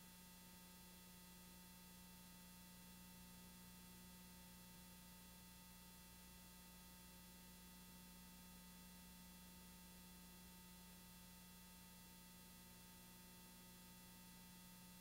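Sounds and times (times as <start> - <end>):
faint steady hum and hiss: 0.0 - 15.0.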